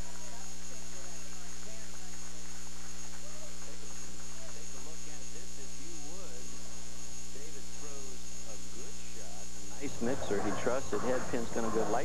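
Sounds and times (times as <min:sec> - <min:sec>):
electrical mains hum: 0:00.0 - 0:12.0
faint voices murmuring: 0:00.0 - 0:12.0.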